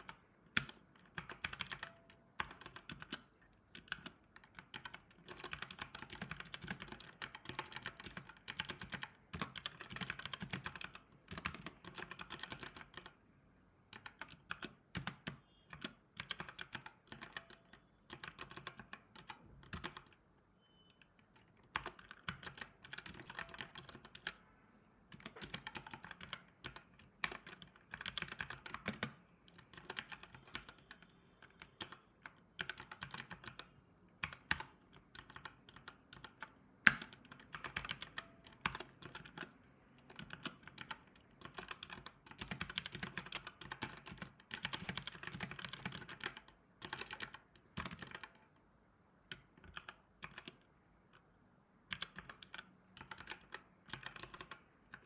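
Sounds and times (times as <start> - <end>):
typing on laptop keyboard: 0.0 - 13.2, 13.9 - 55.0.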